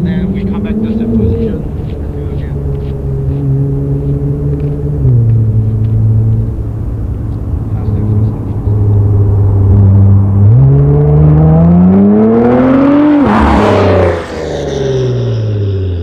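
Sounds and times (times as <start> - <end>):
car engine accelerating and passing by: 0.0 - 16.0.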